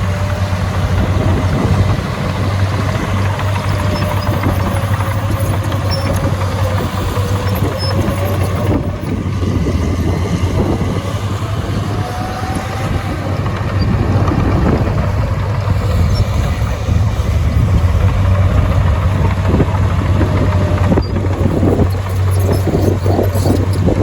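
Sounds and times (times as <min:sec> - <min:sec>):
diesel machinery engine hum: 0:00.0 - 0:24.0.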